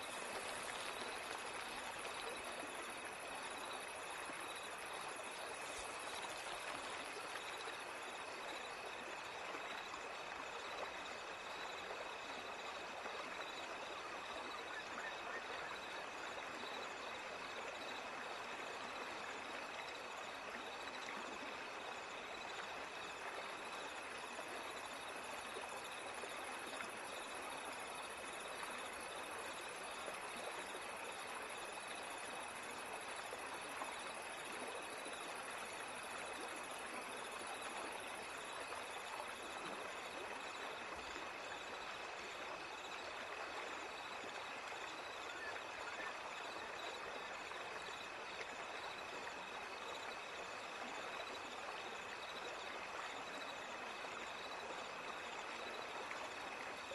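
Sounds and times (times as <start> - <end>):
running water: 0.0 - 56.9.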